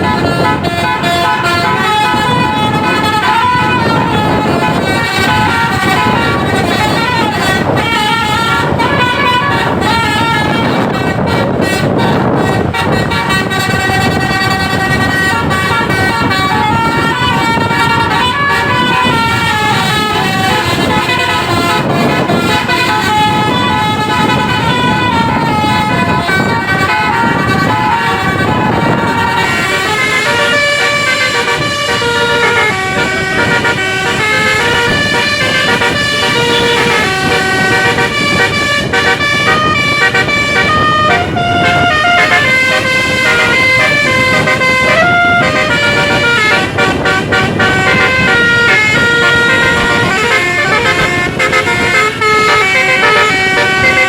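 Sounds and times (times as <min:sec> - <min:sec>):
bus engine running: 0:00.0 - 0:54.0
multi-tone bus horn playing tune: 0:00.0 - 0:54.0.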